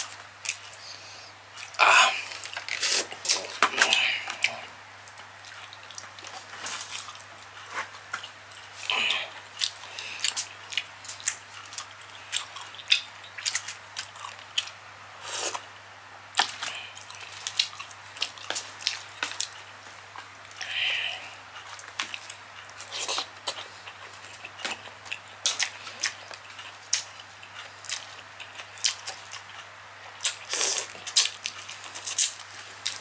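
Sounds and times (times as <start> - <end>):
person chewing wetly: 0.0 - 14.8, 16.3 - 33.0.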